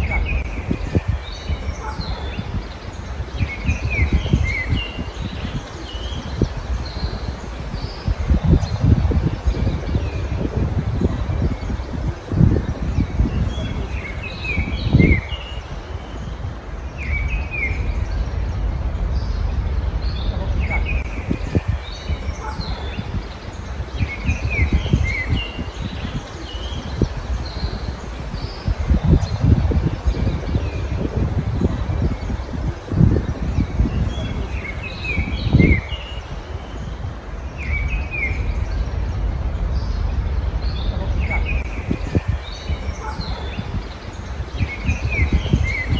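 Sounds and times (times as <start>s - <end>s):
songbirds chirping: 0.0s - 45.9s
steady low rumble: 0.0s - 45.9s.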